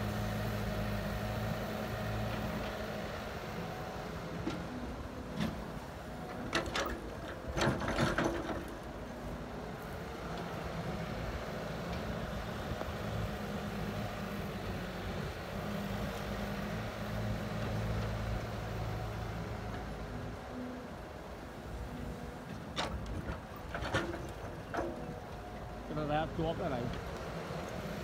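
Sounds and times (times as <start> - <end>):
heavy diesel engines running: 0.0 - 28.0.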